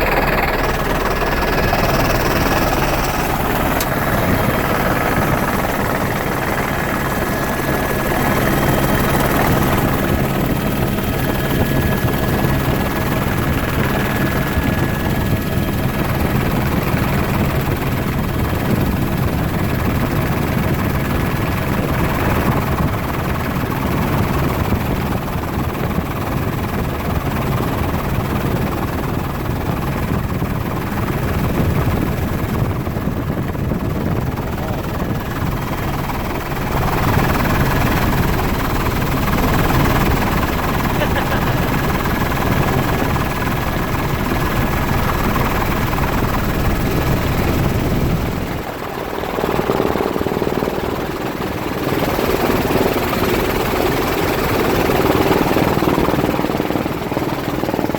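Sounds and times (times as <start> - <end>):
helicopter rotor and engine: 0.0 - 57.9.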